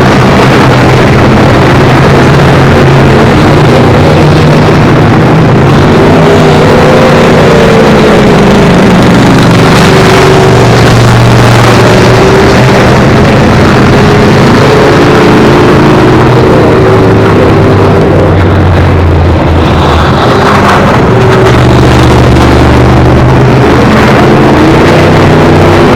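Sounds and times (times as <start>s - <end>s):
race car engines: 0.0s - 25.9s.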